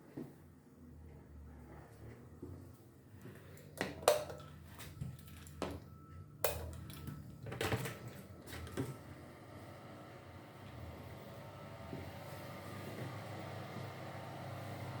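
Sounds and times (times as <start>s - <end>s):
low steady hum: 0.2s - 14.9s.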